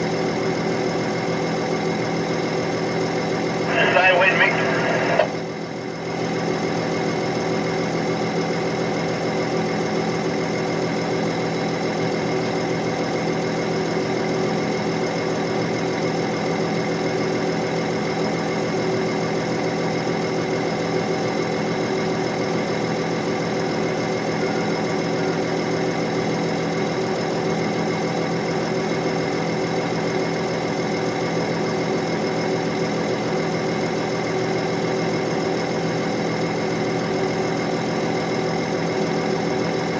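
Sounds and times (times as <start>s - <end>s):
diesel engine droning steadily: 0.0s - 39.9s.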